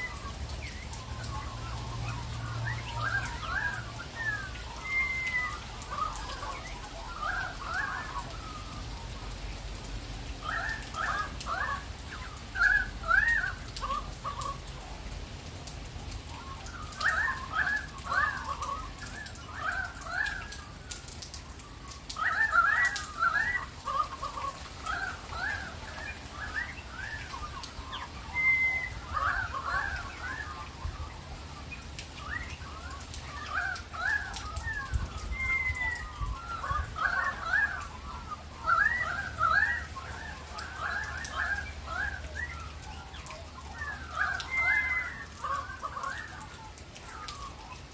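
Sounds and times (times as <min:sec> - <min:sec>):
magpies carolling: 0:00.0 - 0:09.6, 0:10.3 - 0:15.0, 0:16.2 - 0:47.9.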